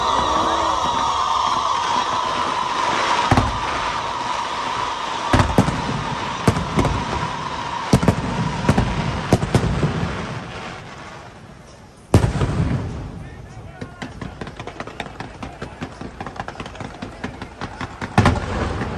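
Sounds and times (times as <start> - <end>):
fireworks bangs: 0.0 - 18.9
fireworks crackling hiss: 0.0 - 18.9.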